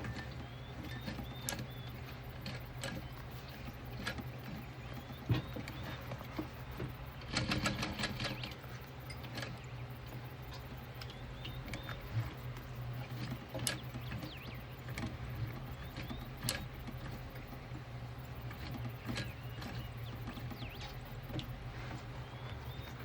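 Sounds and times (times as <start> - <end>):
scattered clicks: 0.0 - 21.6
faint bird chirps: 0.0 - 23.0
steady low hum: 0.0 - 23.0.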